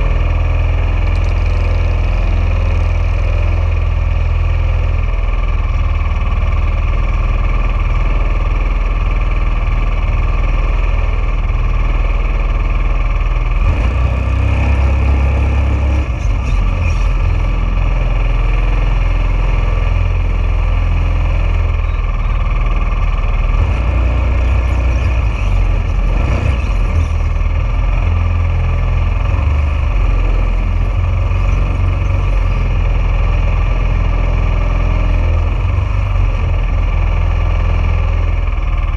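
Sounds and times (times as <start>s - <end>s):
dragster engine running: 0.0s - 38.9s.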